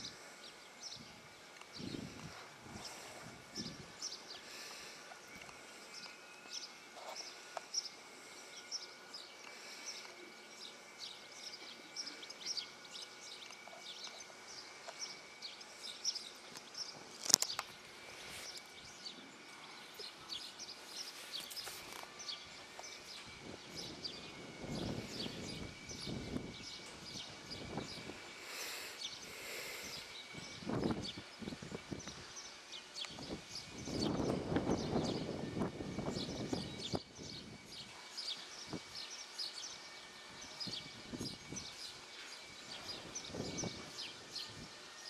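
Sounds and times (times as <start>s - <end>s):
faint outdoor background: 0.0s - 45.0s
small birds chirping: 0.0s - 45.0s.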